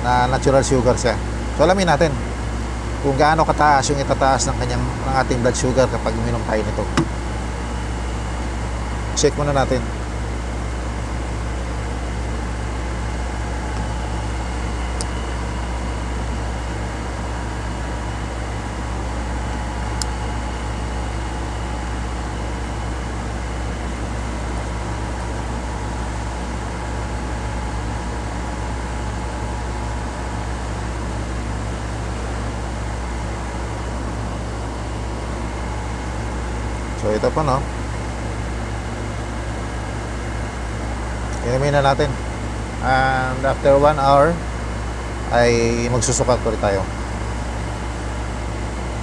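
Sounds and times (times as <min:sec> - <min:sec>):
faint steady whines: 0:00.0 - 0:49.0
mechanical hum: 0:00.0 - 0:49.0.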